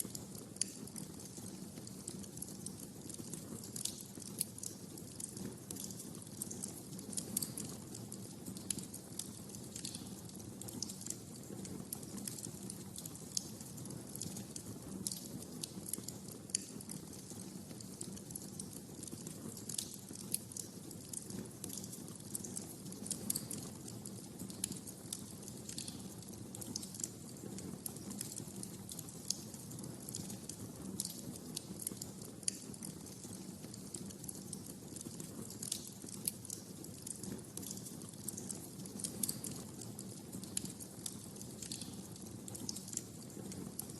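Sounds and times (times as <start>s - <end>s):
fire pops and snaps: 0.0s - 43.9s
low rumble of flames: 0.0s - 43.9s.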